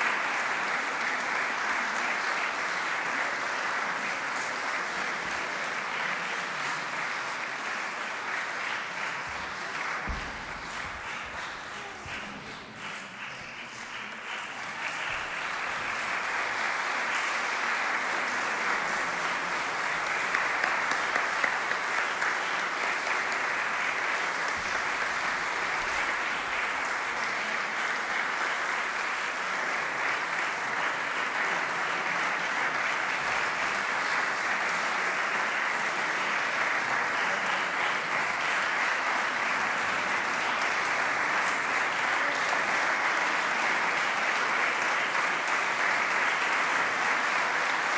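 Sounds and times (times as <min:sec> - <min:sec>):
audience applauding: 0:00.0 - 0:47.9.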